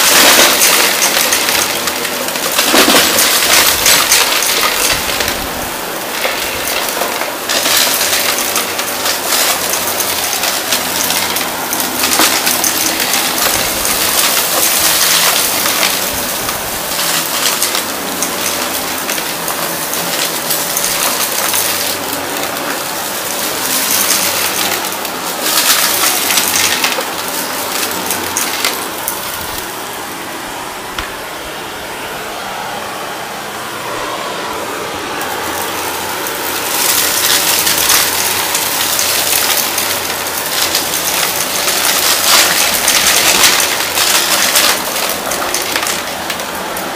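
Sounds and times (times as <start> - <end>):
debris crackling in vacuum: 0.0 - 46.9
vacuum cleaner motor hum: 0.0 - 46.9.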